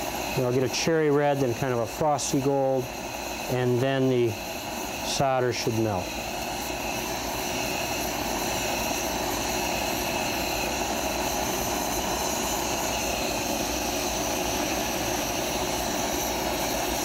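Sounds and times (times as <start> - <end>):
soldering torch rushing: 0.0 - 17.0.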